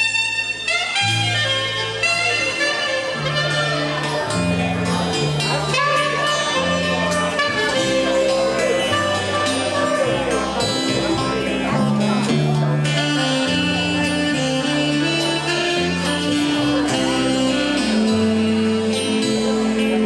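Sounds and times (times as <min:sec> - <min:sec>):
bass line: 0:00.0 - 0:20.0
melodic lead instrument: 0:00.0 - 0:20.0.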